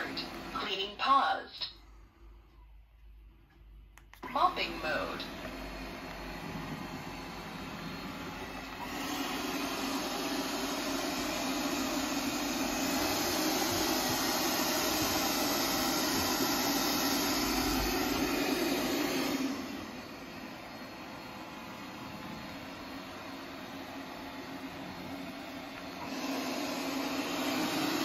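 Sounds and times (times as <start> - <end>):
robot vacuum fan whirring: 0.0 - 1.0, 4.1 - 28.0.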